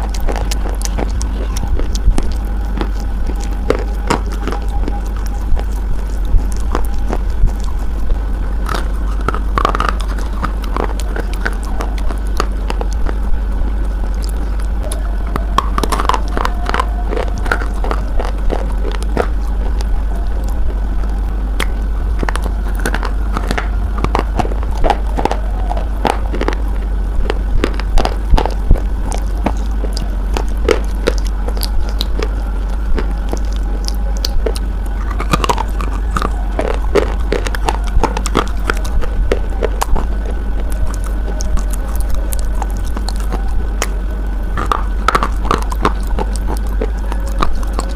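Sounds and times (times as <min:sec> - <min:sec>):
biting and crunching hard bar: 0:00.0 - 0:47.9
low electrical hum: 0:00.0 - 0:47.9.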